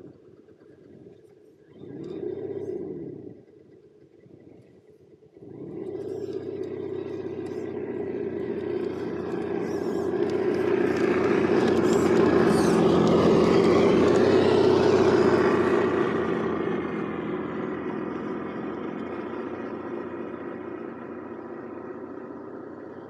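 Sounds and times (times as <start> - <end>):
toy truck motor droning: 0.0 - 23.0.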